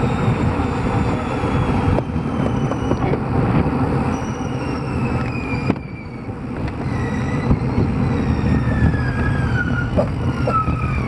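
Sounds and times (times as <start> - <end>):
bike tyre road rumble: 0.0 - 11.0
faint whine falling in pitch: 0.0 - 11.0
wind buffeting microphone: 0.0 - 11.0.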